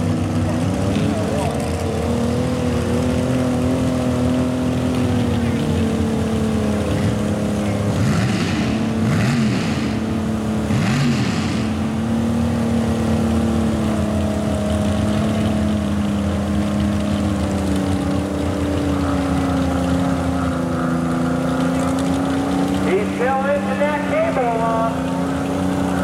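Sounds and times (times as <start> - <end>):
buggy engine revving: 0.0 - 26.0.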